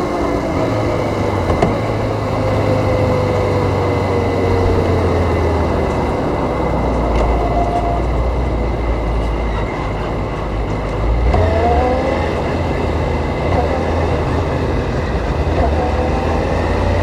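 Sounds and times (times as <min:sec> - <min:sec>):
motorcycle engine at speed: 0:00.0 - 0:09.2, 0:09.9 - 0:17.0
heavy wind: 0:00.0 - 0:17.0
road rumble: 0:00.0 - 0:17.0.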